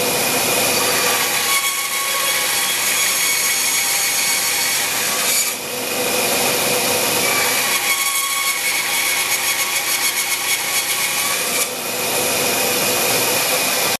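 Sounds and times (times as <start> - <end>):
band saw whining: 0.0 - 14.0
saw blade rasping through wood: 0.0 - 14.0.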